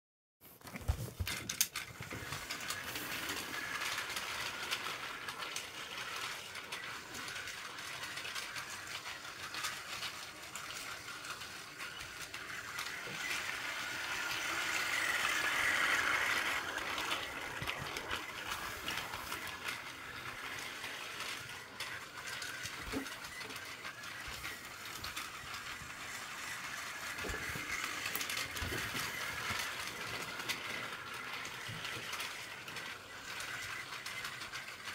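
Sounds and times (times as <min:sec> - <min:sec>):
wheels clattering on plastic track: 0:00.6 - 0:34.9
toy train motor whirring: 0:01.2 - 0:34.9.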